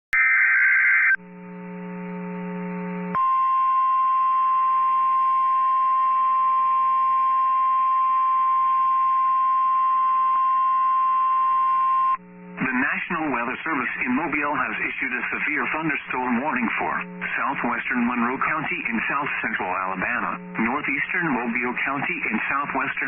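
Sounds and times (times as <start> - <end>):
low radio hum: 0.2 - 23.0.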